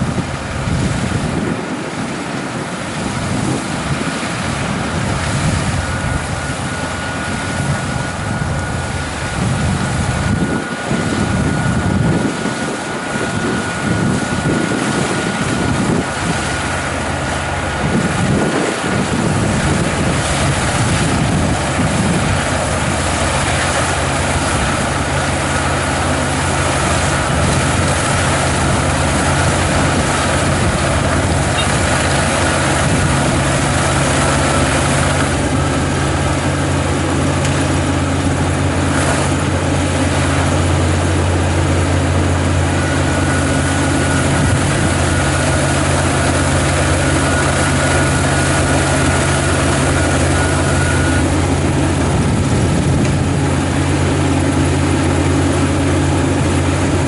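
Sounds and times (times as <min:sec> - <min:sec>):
combine harvester engine hum: 0:00.0 - 0:57.0
wind buffeting microphone: 0:00.0 - 0:57.0.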